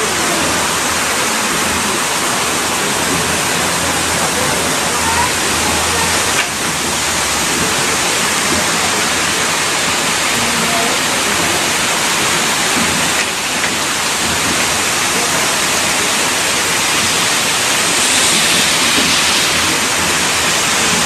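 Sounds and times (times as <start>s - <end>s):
heavy rain hissing: 0.0s - 21.0s.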